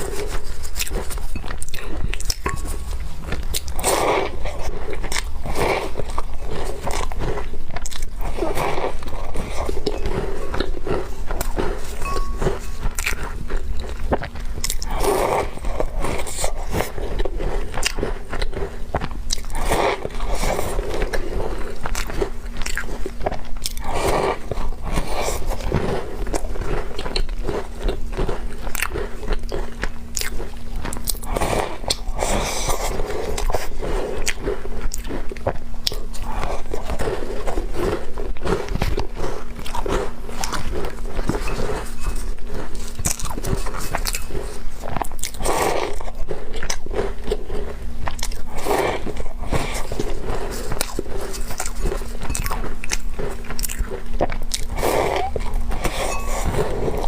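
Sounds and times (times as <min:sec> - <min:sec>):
cookies crunching: 0:00.0 - 0:57.0.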